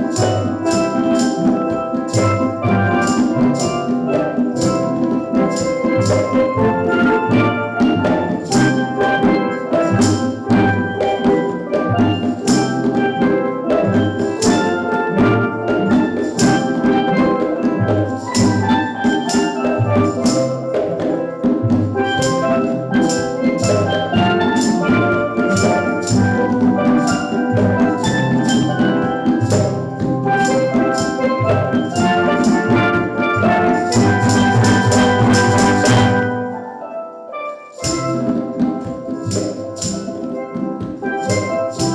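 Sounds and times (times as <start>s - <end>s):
steel drum band playing: 0.0s - 41.9s.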